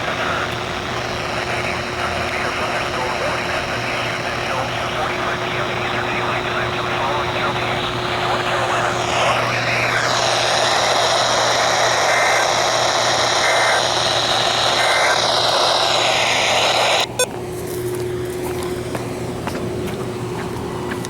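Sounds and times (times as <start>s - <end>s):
radio static hiss: 0.0s - 17.3s.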